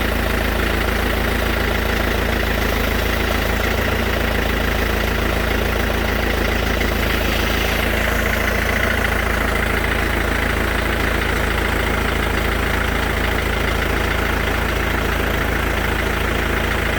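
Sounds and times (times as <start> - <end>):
diesel engine idling with clacking: 0.0 - 16.9.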